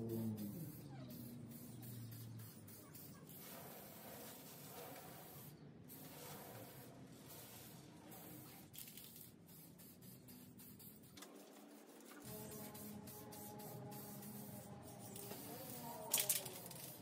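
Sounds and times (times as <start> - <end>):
aerosol spray can hissing: 0.0 - 11.6, 12.2 - 17.0.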